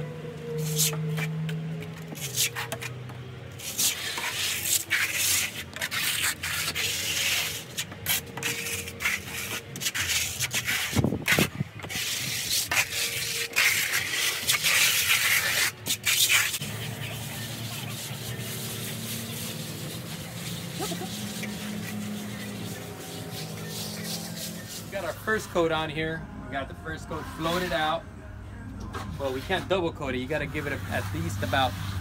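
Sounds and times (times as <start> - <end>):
float scraping wet stucco: 0.4 - 25.9, 26.9 - 28.0, 28.9 - 32.0.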